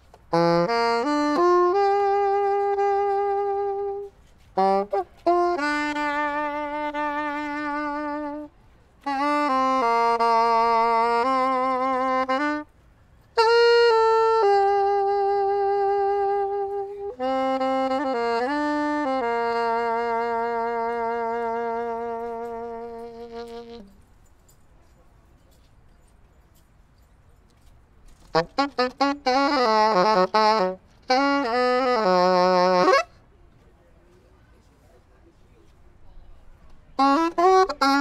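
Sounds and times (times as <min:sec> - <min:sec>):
solo saxophone: 0:00.0 - 0:24.2, 0:28.1 - 0:33.2, 0:36.8 - 0:38.0.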